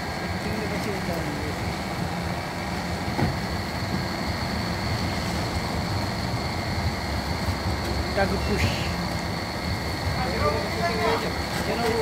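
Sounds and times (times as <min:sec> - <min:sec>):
marine engines rumbling: 0:00.0 - 0:12.0.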